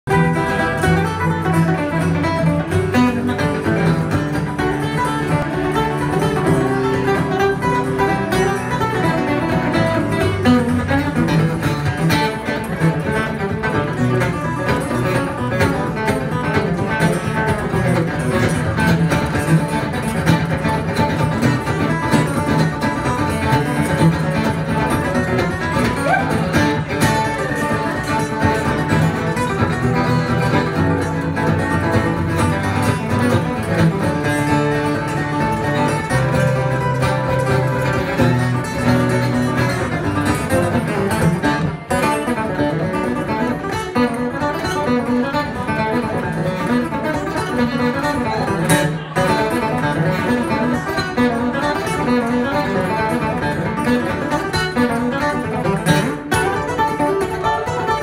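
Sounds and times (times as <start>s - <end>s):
acoustic guitar duet: 0.0s - 58.0s.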